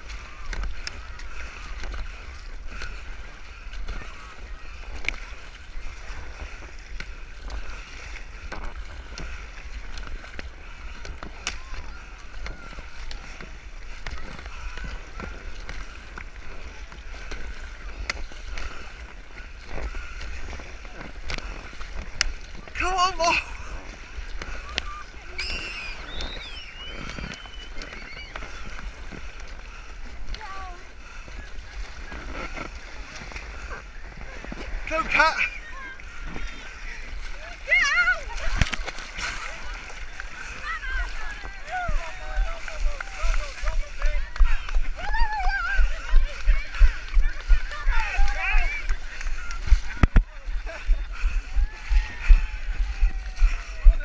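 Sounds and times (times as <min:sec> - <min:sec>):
paddles splashing in water: 0:00.0 - 0:54.0
wind on microphone: 0:00.0 - 0:54.0.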